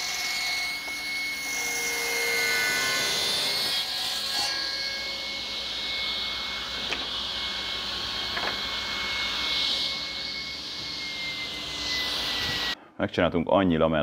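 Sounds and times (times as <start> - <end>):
saw blade high whine: 0.0 - 12.8
table saw cutting wood: 0.0 - 12.8.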